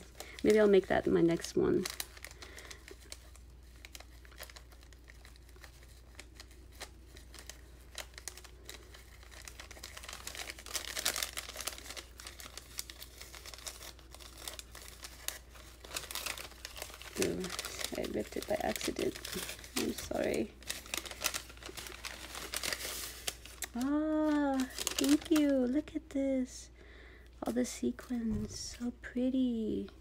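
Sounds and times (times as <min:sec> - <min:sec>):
paper and plastic wrapping crinkling: 0:00.0 - 0:26.4.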